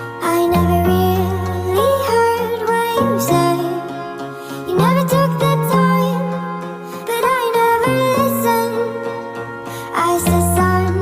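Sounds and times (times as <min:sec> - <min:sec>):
slow melody with held notes: 0:00.0 - 0:11.0.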